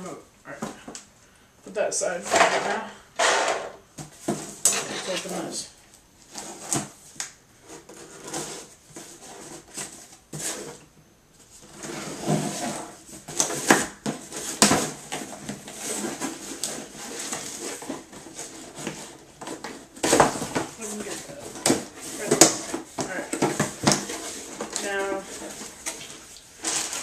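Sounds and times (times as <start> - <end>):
packaging rustling and scraping: 2.3 - 5.6, 6.2 - 27.0.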